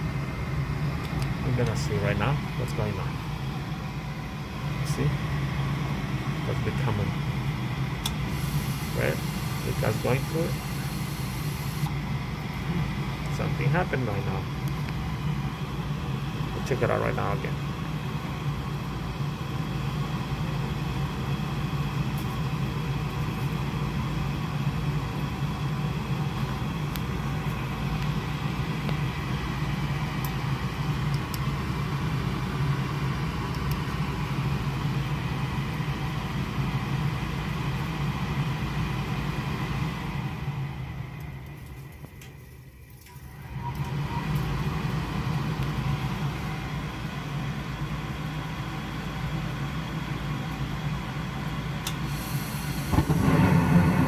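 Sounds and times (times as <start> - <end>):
gas furnace humming: 0.0 - 54.0.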